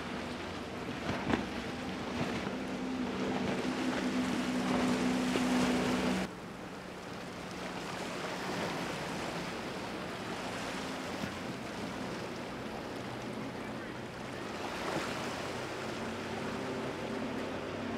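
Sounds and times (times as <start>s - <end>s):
motorboat engine drone: 0.0s - 17.9s.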